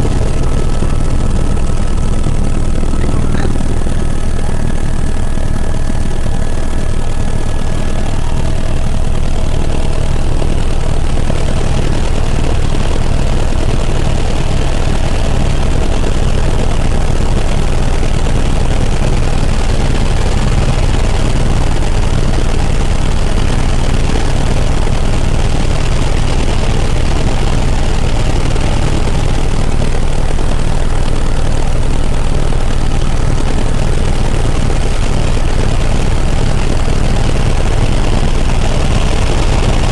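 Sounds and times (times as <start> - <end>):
helicopter rotor and engine noise: 0.0 - 39.9.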